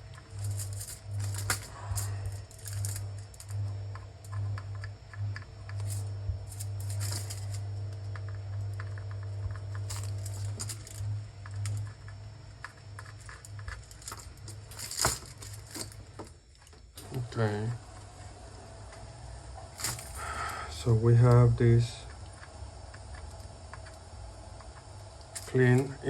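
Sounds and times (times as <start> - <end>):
pulsing electrical hum: 0.0 - 26.0.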